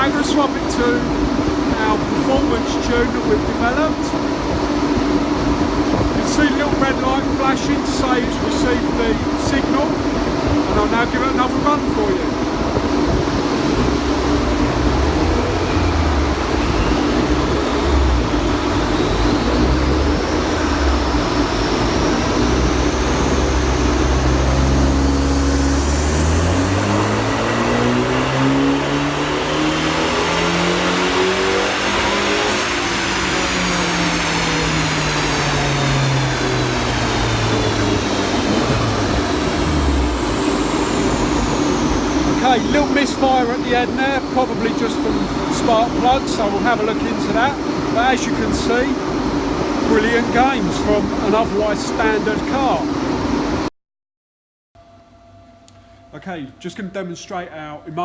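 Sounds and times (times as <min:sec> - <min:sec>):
engine misfire: 0:00.0 - 0:53.6
car engine revving on a dyno: 0:00.0 - 0:53.7
steady hum: 0:00.0 - 0:53.7.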